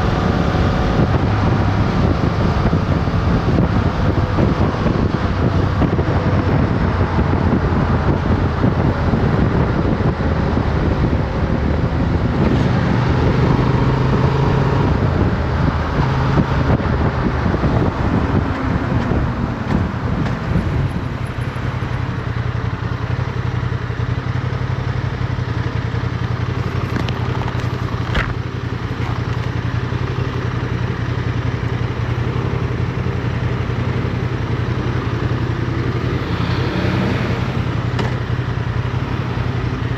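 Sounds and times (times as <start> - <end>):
wind noise: 0.0 - 23.0, 26.4 - 39.9
motorcycle engine: 0.0 - 39.9.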